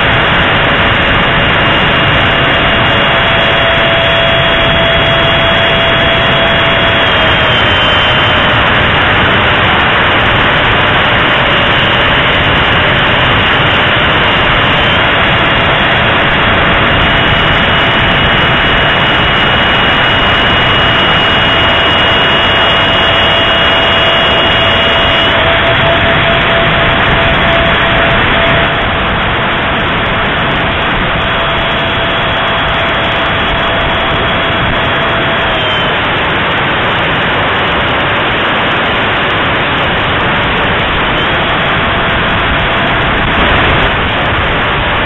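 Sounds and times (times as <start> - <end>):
electric fan whine: 0.0 - 45.0
wind rush on microphone: 0.0 - 45.0.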